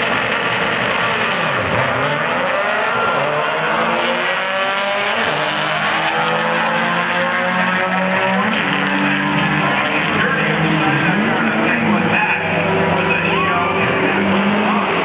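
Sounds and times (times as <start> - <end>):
drag cars accelerating: 0.0 - 15.0.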